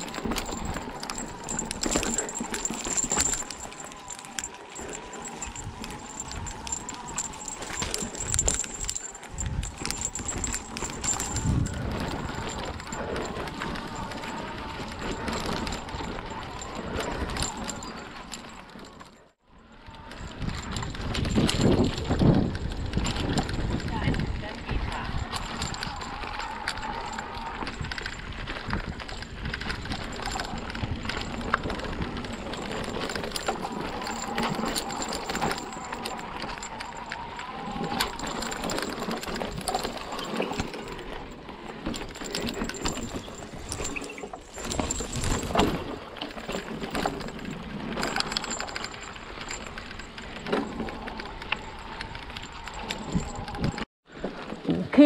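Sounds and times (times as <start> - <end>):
bike rattling over bumps: 0.0 - 19.3, 19.9 - 54.6
tyres on dirt trail: 0.0 - 55.0.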